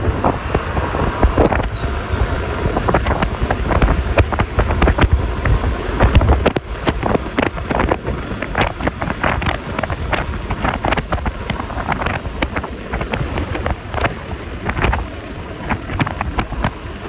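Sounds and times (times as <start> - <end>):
scooter and road rumble: 0.0 - 17.0
wind buffeting microphone: 0.0 - 17.0.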